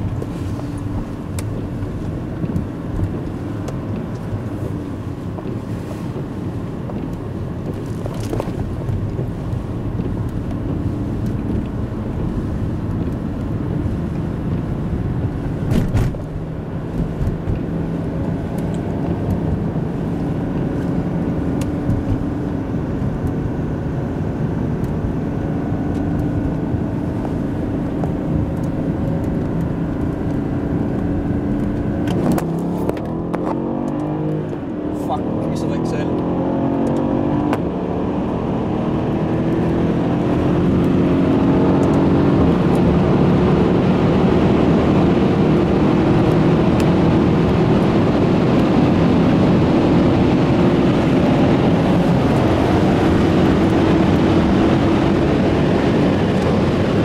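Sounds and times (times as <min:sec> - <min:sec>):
car engine drone: 0:00.0 - 0:57.0
road and wind noise: 0:00.0 - 0:57.0.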